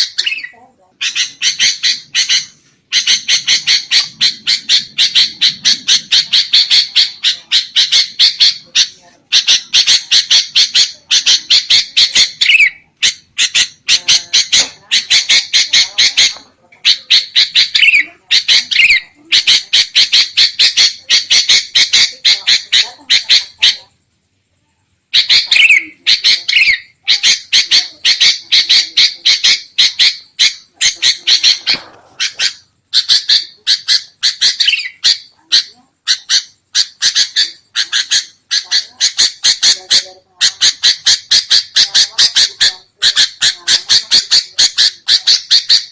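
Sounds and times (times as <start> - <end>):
birds chattering: 0.0 - 45.9.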